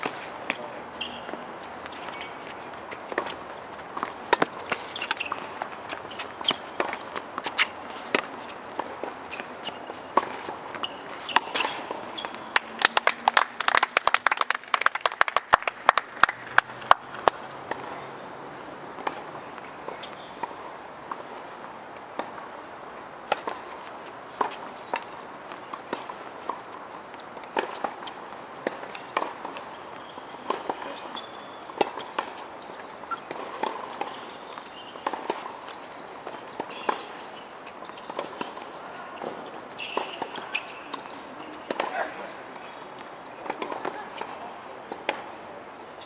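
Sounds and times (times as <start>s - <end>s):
tennis balls struck and bouncing: 0.0s - 13.7s, 16.2s - 18.0s, 18.9s - 21.4s, 22.0s - 22.6s, 23.2s - 45.3s.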